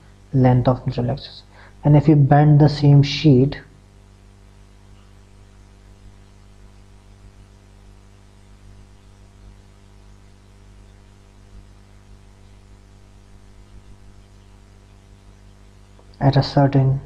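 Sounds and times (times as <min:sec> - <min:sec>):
electrical mains hum: 0:00.0 - 0:17.0
faint hiss: 0:00.0 - 0:17.0.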